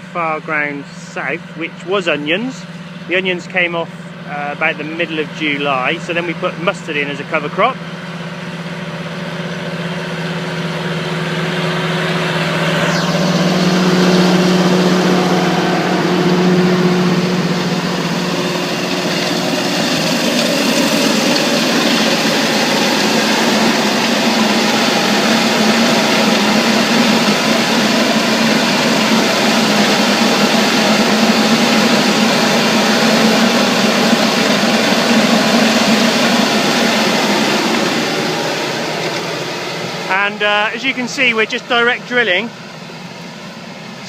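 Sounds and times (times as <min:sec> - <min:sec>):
tractor engine under load: 0:00.0 - 0:44.0.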